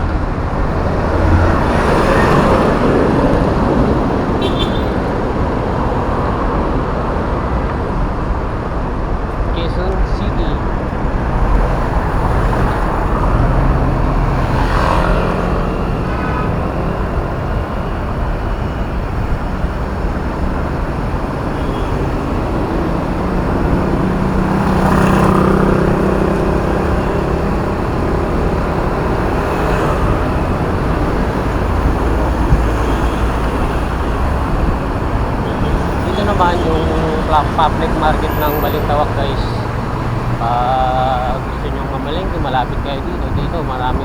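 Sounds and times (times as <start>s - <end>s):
heavy road traffic rumble: 0.0s - 44.0s
vehicles passing close by: 0.0s - 44.0s.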